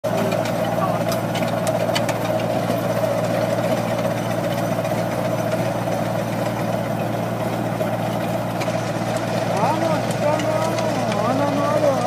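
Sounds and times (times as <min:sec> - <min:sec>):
tractor engine running: 0:00.0 - 0:12.0
ditcher cutting soil: 0:00.1 - 0:12.0.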